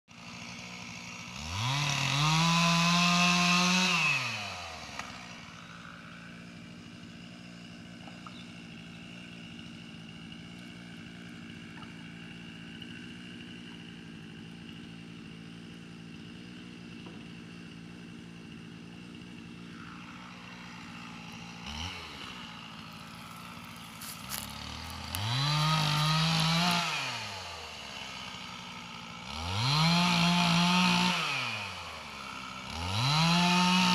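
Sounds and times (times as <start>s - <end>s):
small engine idling and revving: 0.1s - 33.9s.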